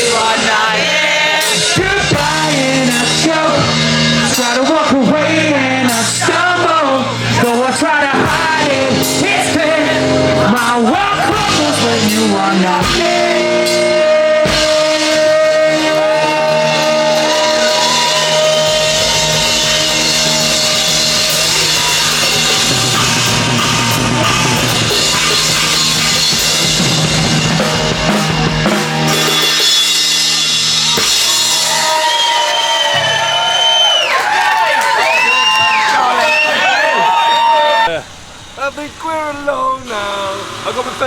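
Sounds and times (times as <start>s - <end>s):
rock band playing: 0.0s - 37.9s.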